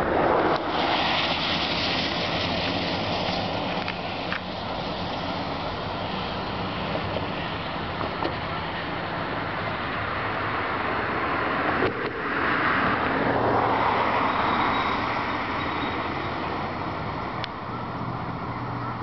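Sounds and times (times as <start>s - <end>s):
road traffic noise: 0.0s - 19.0s
vehicle passing: 0.0s - 19.0s.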